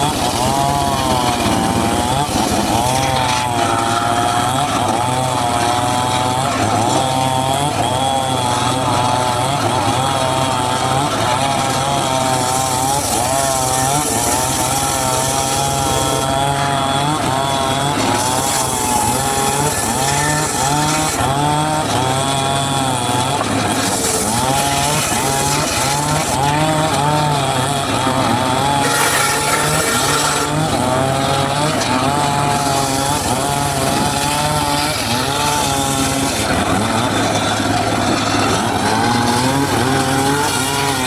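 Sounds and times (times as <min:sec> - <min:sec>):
circular saw cutting wood: 0:00.0 - 0:41.0.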